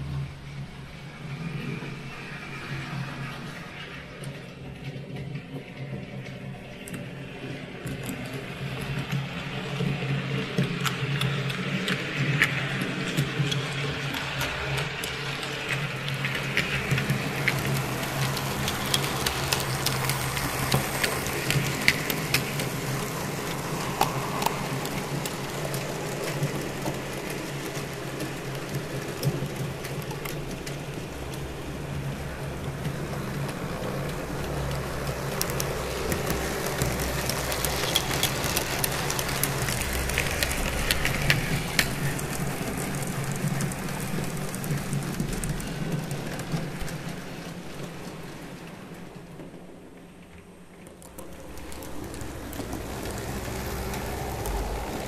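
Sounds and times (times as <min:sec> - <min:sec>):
model train wheels clattering: 0:02.1 - 0:55.0.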